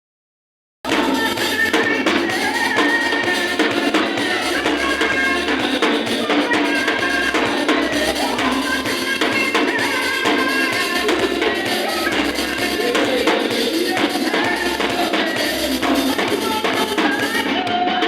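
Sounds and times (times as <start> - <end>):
drum kit beat: 0.9 - 18.0
keyboard: 0.9 - 18.0.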